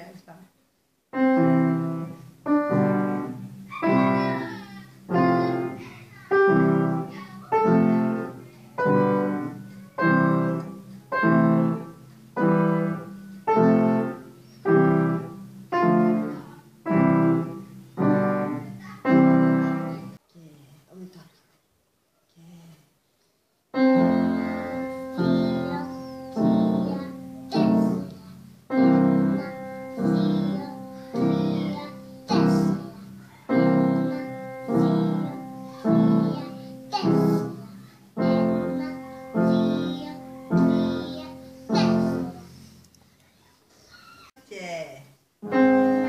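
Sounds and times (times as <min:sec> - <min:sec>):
upright piano playing chords: 0:01.1 - 0:20.2, 0:23.8 - 0:42.7, 0:45.4 - 0:46.0.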